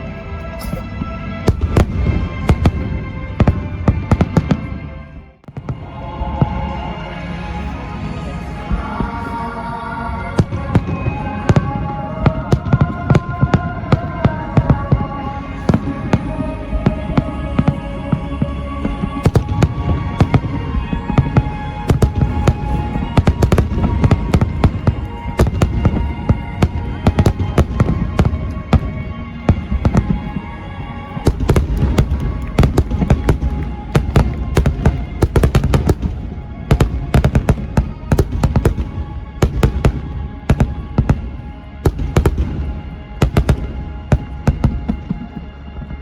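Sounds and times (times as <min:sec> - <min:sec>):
fireworks bangs and crackles: 0:00.0 - 0:07.6, 0:10.3 - 0:46.0
music playing: 0:00.0 - 0:46.0.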